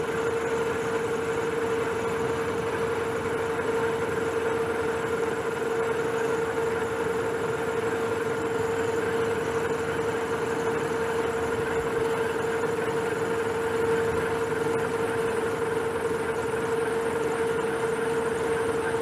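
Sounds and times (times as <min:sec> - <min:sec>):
metal lathe running: 0:00.0 - 0:19.0
steady whine: 0:00.0 - 0:19.0.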